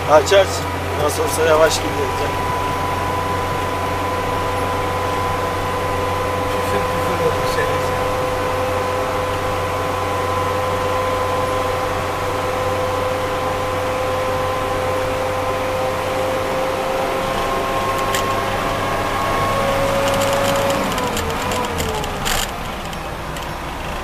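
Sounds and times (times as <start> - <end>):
road noise: 0.0 - 24.0
steady whine: 0.0 - 24.0
vehicle engine hum: 0.0 - 24.0.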